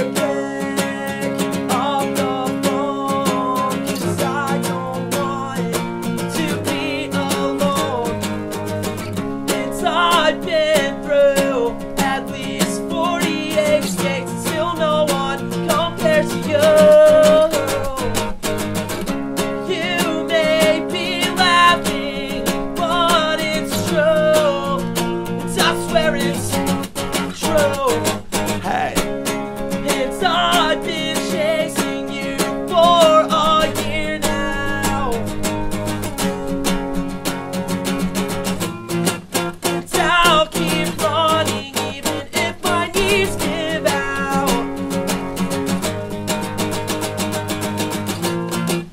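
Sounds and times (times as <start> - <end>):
man singing: 0.0 - 18.3, 19.5 - 35.4, 39.6 - 45.0
acoustic guitar strumming: 0.0 - 48.9.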